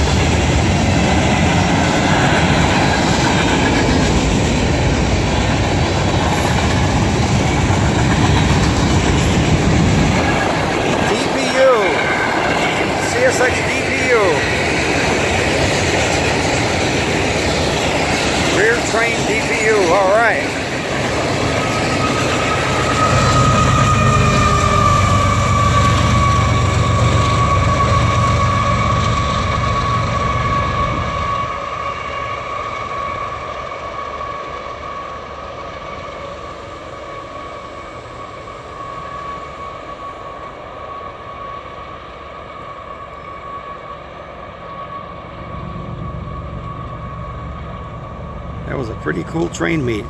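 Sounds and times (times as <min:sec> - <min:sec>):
freight train rumbling: 0:00.0 - 0:50.0
high-pitched train squeal: 0:00.8 - 0:50.0.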